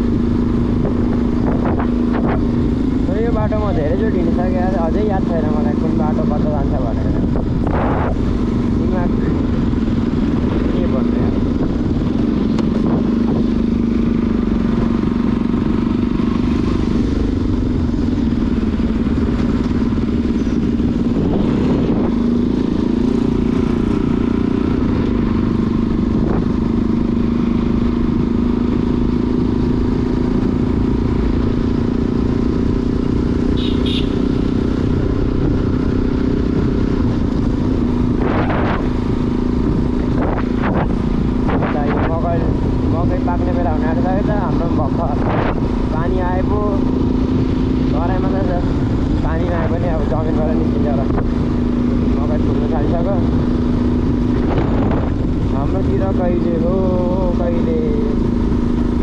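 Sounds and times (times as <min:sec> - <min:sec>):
motorcycle engine droning: 0:00.0 - 0:59.0
wind and road noise: 0:00.0 - 0:59.0.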